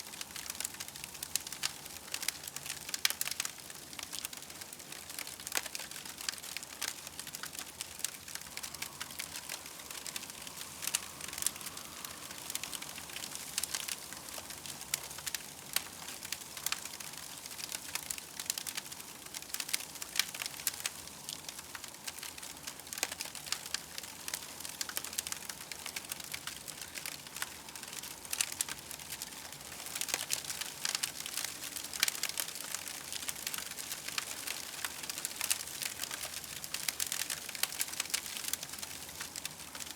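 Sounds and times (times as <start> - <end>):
steady hiss: 0.0 - 39.9
campfire crackling: 0.1 - 39.9.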